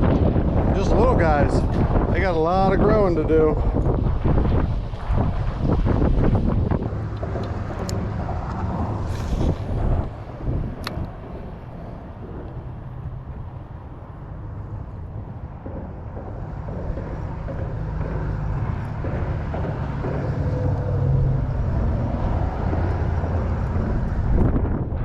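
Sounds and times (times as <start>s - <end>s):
low rumble of road traffic: 0.0s - 25.0s.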